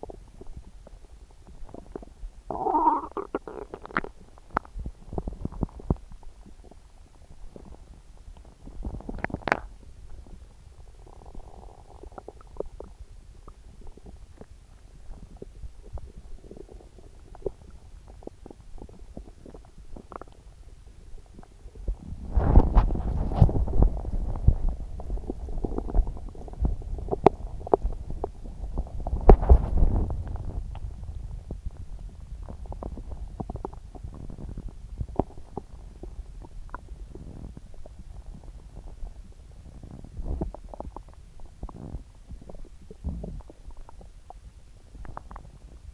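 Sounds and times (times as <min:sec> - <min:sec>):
stomach gurgling: 0:00.0 - 0:45.9.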